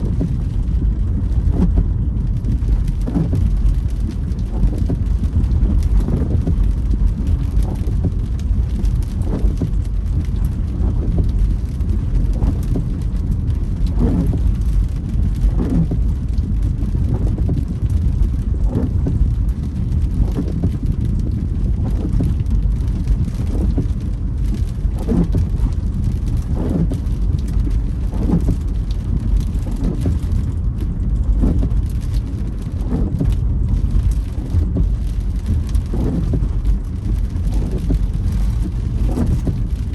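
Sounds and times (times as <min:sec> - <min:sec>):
car driving rumble: 0:00.0 - 0:39.9
windscreen wipers creaking: 0:00.0 - 0:39.9.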